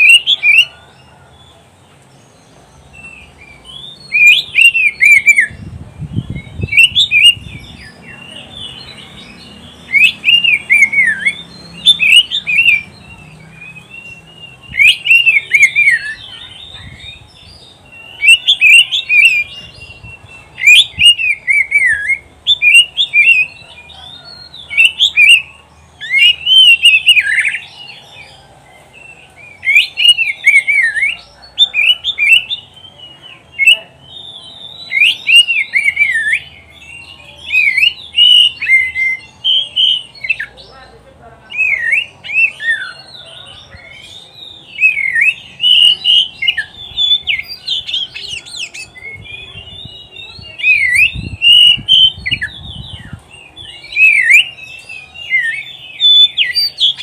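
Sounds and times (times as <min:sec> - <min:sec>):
bird singing whistles and trills: 0:00.0 - 0:40.8, 0:41.5 - 0:57.0.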